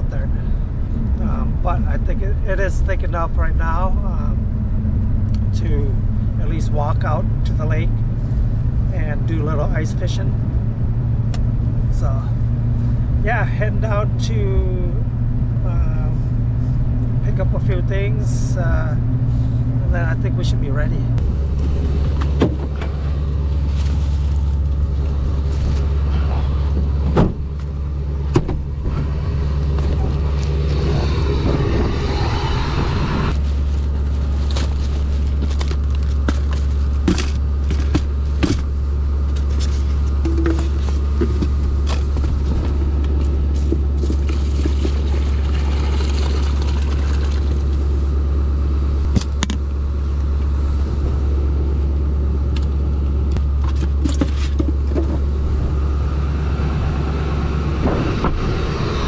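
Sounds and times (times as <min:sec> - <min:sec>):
engine and road noise drone: 0:00.0 - 0:59.0.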